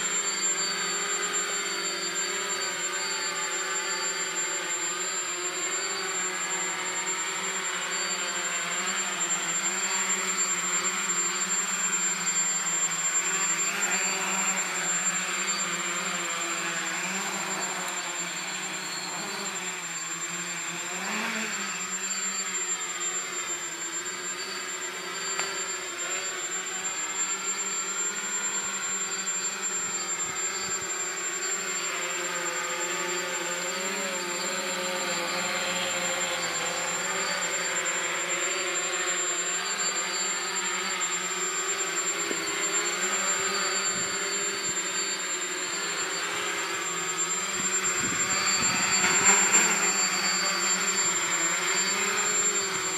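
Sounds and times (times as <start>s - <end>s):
drone propellers whirring: 0.0s - 52.9s
thin high whine: 0.0s - 52.9s.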